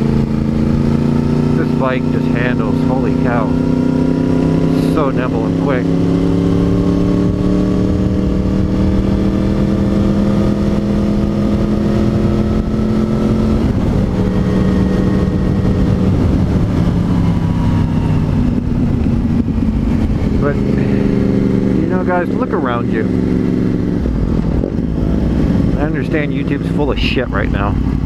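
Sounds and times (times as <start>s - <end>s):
motorcycle engine running: 0.0s - 28.0s
wind noise from riding: 0.0s - 28.0s.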